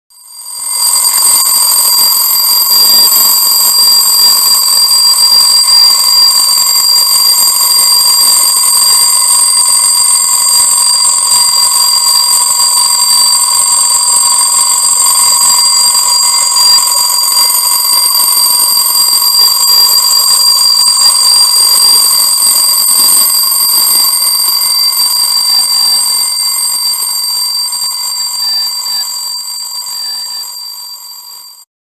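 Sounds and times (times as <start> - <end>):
alarm clock ringing: 0.1 - 31.7.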